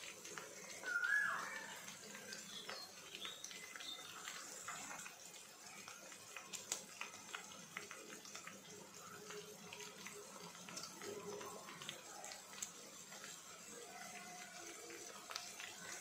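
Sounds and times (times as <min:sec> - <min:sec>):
oil crackling and sizzling: 0:00.0 - 0:16.0.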